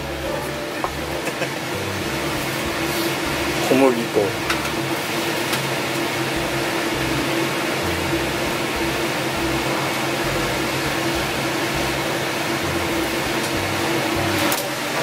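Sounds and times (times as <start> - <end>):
kitchen fan droning: 0.0 - 15.0.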